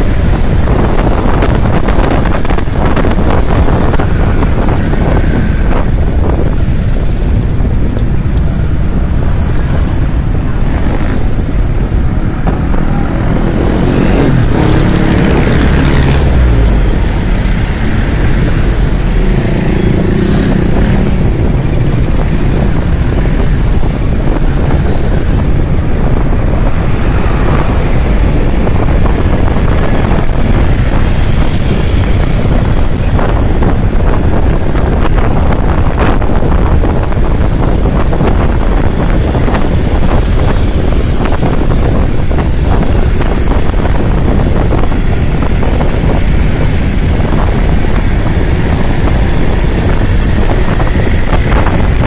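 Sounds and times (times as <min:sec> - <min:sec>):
road noise: 0:00.0 - 0:52.0
wind rush on microphone: 0:00.0 - 0:52.0.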